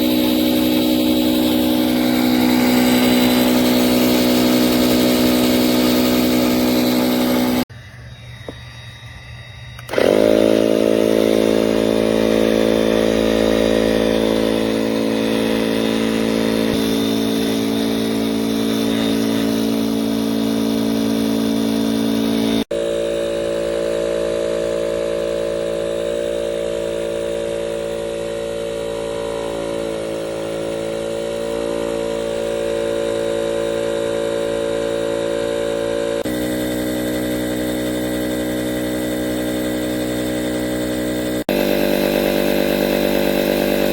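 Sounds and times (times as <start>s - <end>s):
electric pump motor humming: 0.0s - 43.9s.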